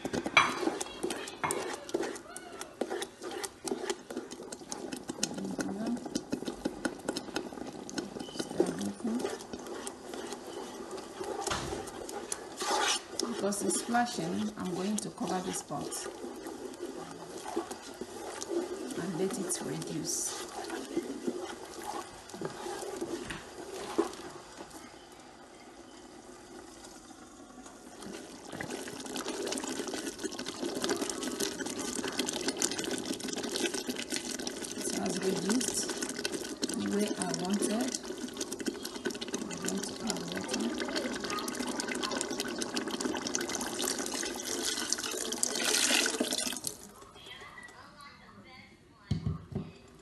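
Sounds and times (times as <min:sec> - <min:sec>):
thick sauce bubbling in a pot: 0:00.0 - 0:47.2
wooden spoon stirring: 0:00.0 - 0:47.9.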